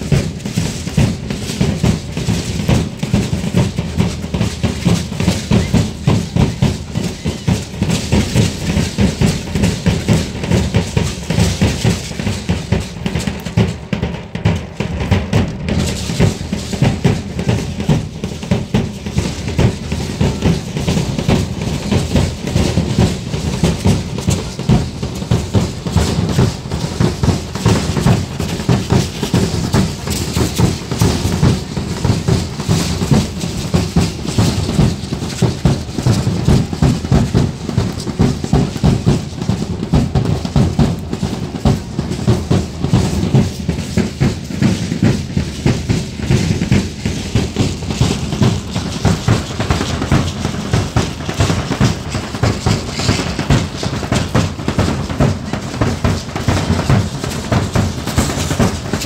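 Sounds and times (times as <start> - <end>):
driving drum beat: 0.0 - 59.0.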